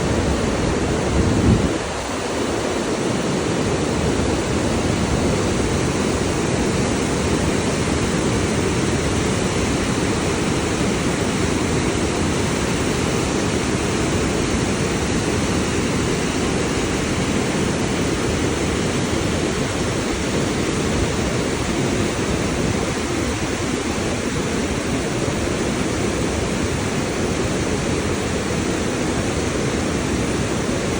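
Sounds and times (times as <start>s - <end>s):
rush of falling water: 0.0s - 30.9s.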